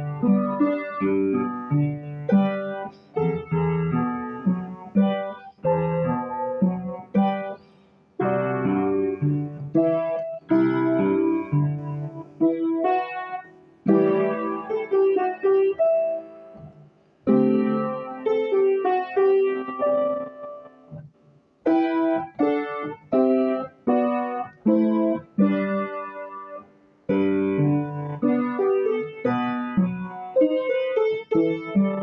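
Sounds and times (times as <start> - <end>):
solo piano melody: 0.0 - 32.0.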